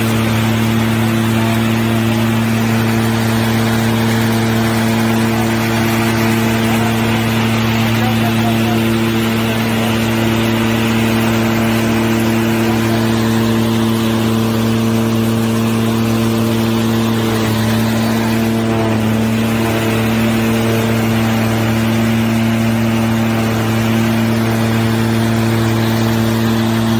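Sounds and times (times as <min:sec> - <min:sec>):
hay baler engine humming: 0:00.0 - 0:26.9.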